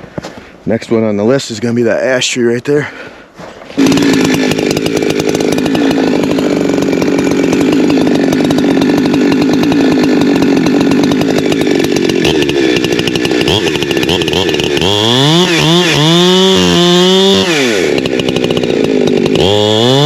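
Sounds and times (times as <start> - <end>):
chainsaw cutting tree at full throttle: 3.8 - 20.0.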